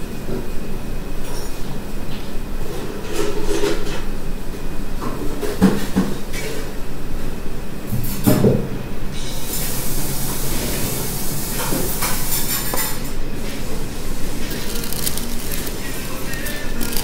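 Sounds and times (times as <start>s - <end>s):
steady hissing background noise: 0.0s - 17.0s.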